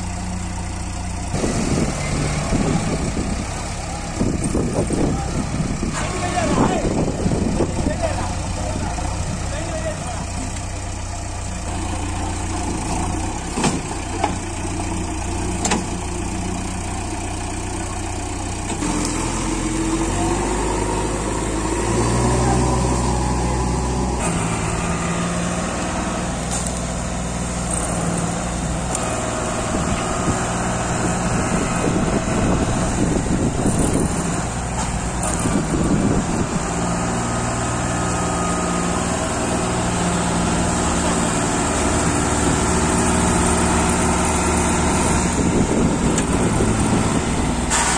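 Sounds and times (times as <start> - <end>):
heavy diesel engines running: 0.0 - 47.9.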